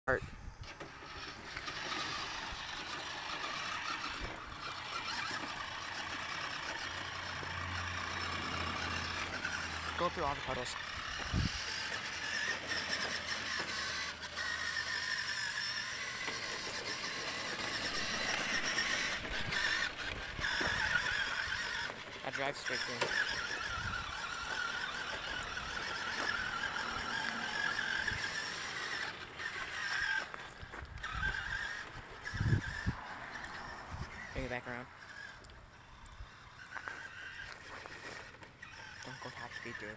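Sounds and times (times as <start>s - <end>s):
rc truck motor whirring: 0.1s - 39.9s.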